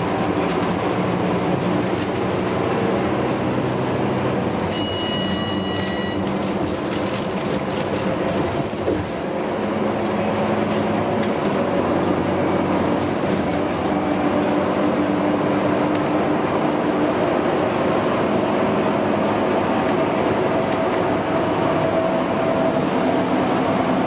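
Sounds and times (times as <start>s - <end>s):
bus diesel engine running: 0.0s - 24.0s
road noise: 0.0s - 24.0s.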